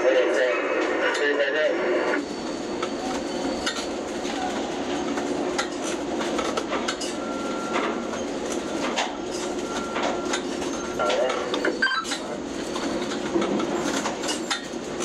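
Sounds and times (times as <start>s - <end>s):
crane machinery hum: 2.1s - 15.0s.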